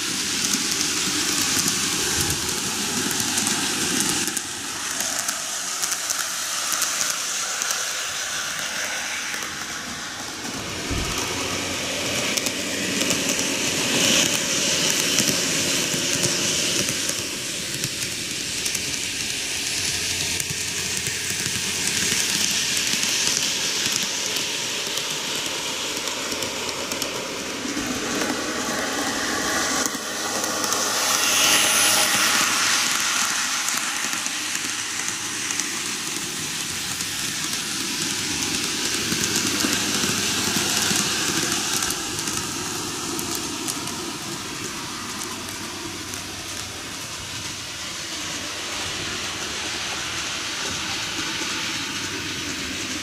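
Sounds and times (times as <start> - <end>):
model trains whirring and rattling: 0.0 - 53.0.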